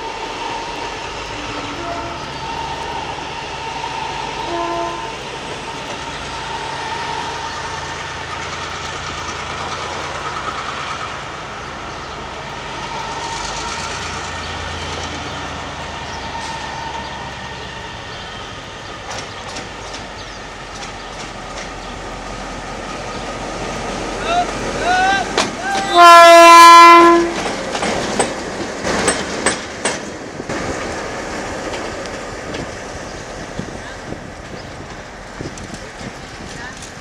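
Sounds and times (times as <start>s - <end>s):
diesel locomotive engine running: 0.0s - 37.0s
train rumbling on track: 0.0s - 37.0s.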